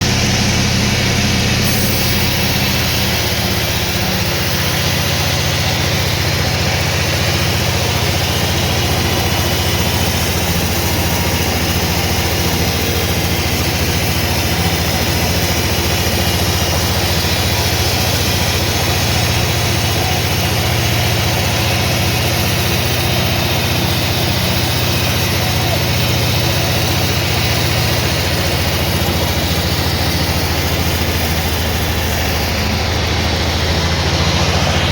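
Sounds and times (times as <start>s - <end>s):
sawmill machinery running: 0.0s - 34.9s.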